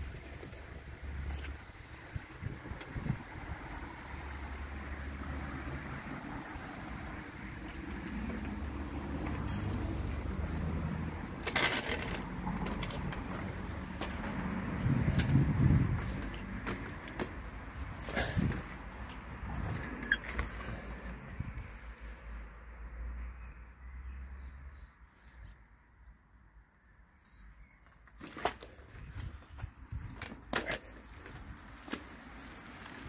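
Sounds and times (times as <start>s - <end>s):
distant road traffic hum: 0.0s - 33.0s.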